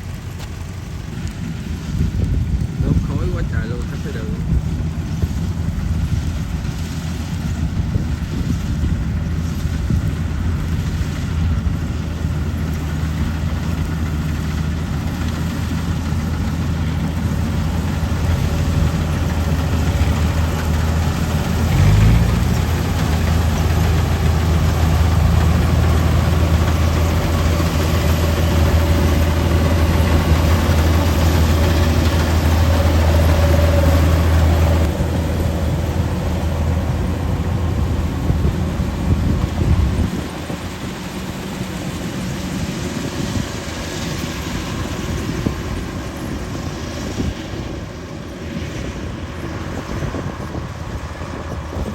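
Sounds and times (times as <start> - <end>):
combine harvester diesel engine: 0.0 - 51.9.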